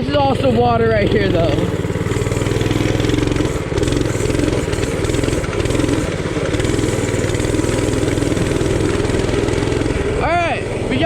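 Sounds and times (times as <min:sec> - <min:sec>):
bike riding through water: 0:00.0 - 0:10.6
mini bike engine running under load: 0:00.0 - 0:11.0.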